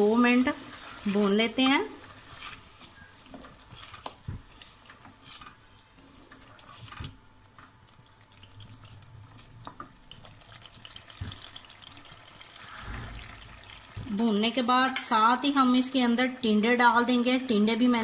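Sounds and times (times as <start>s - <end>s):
food frying in a pot: 0.0s - 18.0s.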